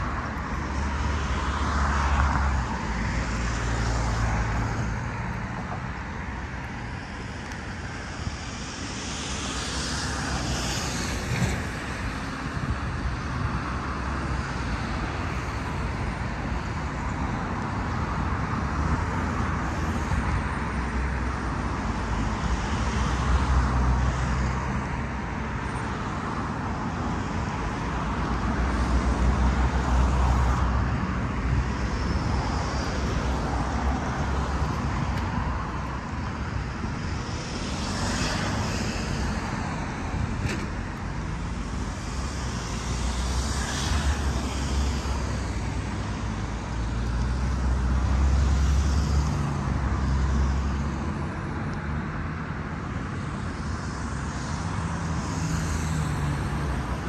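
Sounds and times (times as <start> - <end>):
road traffic noise: 0.0 - 57.0
vehicles passing: 0.0 - 57.0.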